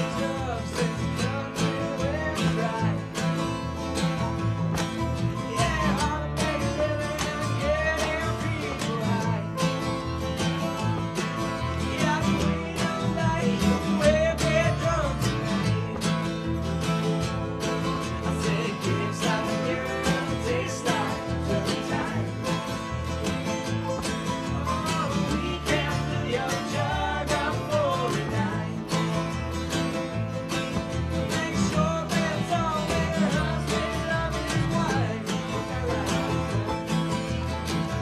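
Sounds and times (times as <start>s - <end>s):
bluegrass string band playing: 0.0s - 38.0s
strummed acoustic guitar: 0.0s - 38.0s.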